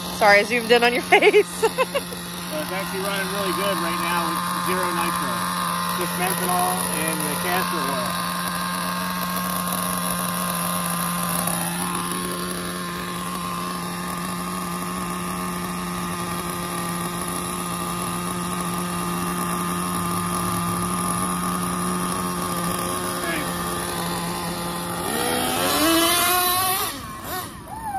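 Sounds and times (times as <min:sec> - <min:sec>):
small engine idling: 0:00.0 - 0:27.9.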